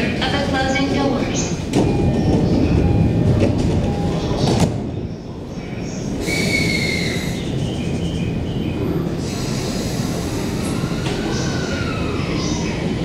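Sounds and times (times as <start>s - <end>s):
train equipment low hum: 0.0s - 13.0s.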